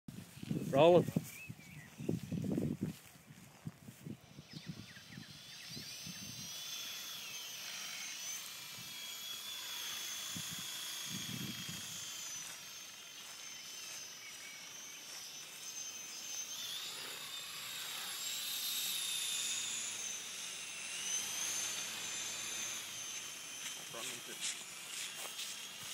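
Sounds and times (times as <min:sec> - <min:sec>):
model helicopter rotors whining: 0:03.7 - 0:25.9.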